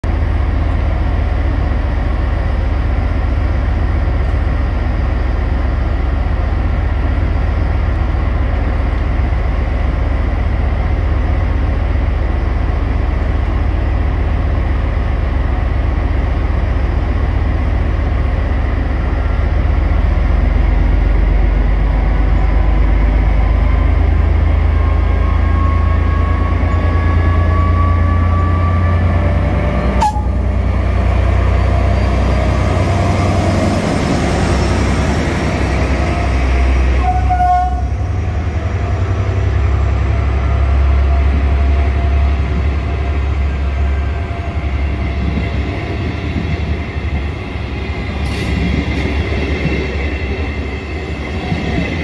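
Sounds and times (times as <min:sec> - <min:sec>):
diesel locomotive engine rumble: 0:00.0 - 0:52.0.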